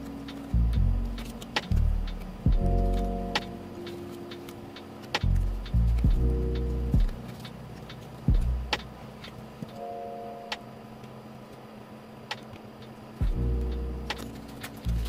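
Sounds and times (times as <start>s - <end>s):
lo-fi chillhop music: 0.0s - 11.2s, 13.1s - 15.0s.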